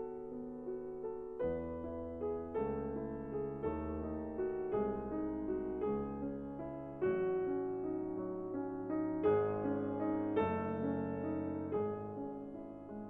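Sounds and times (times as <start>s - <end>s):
soft slow piano music: 0.0s - 13.0s.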